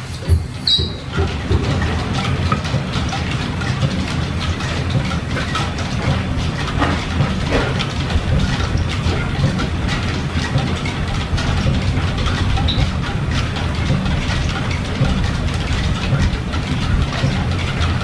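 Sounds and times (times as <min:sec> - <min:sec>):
belts and gears clattering: 0:00.0 - 0:18.0
machinery low rumble: 0:00.0 - 0:18.0.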